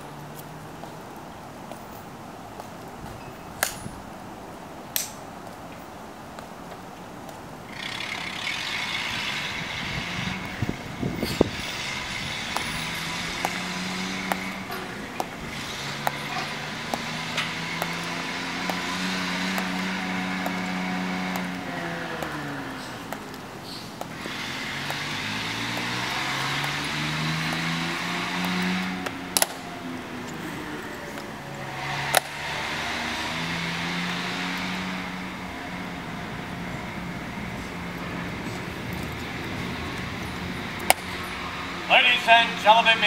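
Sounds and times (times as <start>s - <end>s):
vehicle engine humming and whining: 0.0s - 43.0s.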